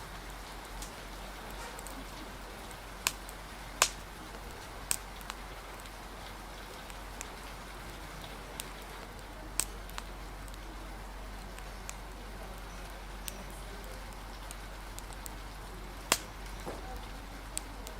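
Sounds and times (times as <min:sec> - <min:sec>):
rain: 0:00.0 - 0:17.9
wind: 0:00.0 - 0:17.9
wood fire pops: 0:00.0 - 0:17.9.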